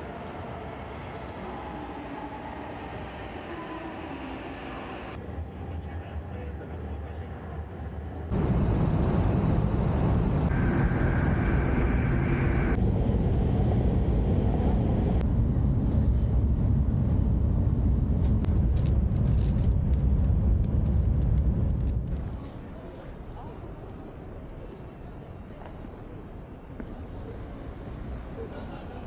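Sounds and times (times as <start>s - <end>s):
train rumble inside carriage: 0.0s - 24.1s.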